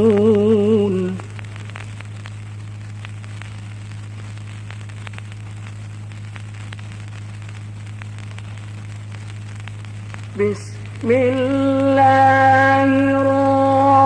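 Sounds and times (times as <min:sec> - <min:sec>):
hiss and crackles: 0:00.0 - 0:14.0
low electrical hum: 0:00.0 - 0:14.0.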